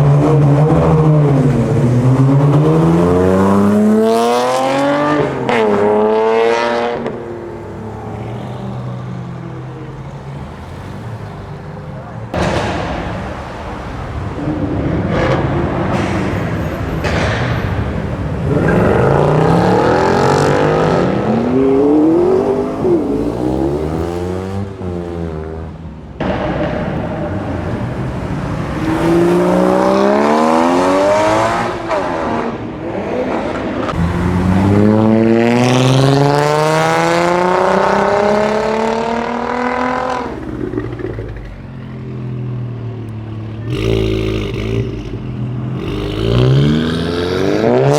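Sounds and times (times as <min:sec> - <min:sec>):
car engines accelerating hard: 0:00.0 - 0:47.9.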